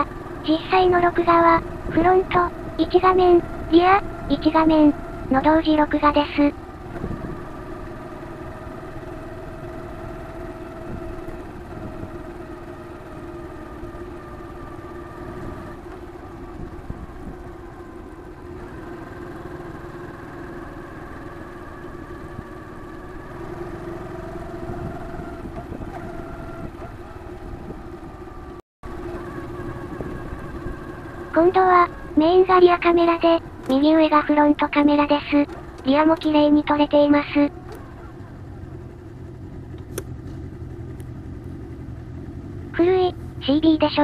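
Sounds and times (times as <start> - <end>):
motorcycle engine running: 0.0 - 44.0
road and wind rumble: 0.0 - 44.0.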